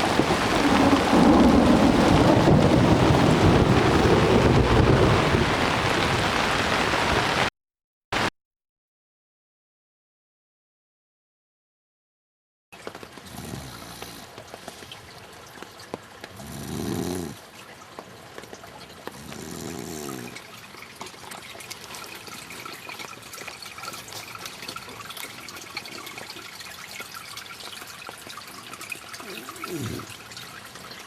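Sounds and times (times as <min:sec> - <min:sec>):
heavy rain pattering: 0:00.0 - 0:07.5, 0:12.8 - 0:31.0.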